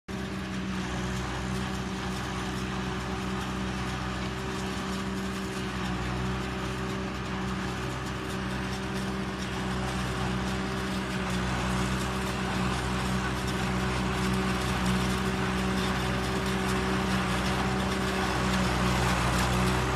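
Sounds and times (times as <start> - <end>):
forage harvester whir: 0.1 - 19.9
tractor engine drone: 0.1 - 19.9.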